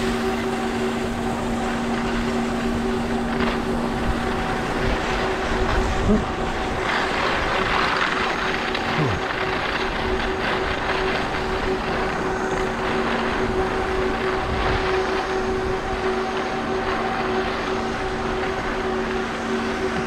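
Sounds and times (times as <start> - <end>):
skis sliding over snow: 0.0 - 20.0
wind noise on microphone: 0.0 - 20.0.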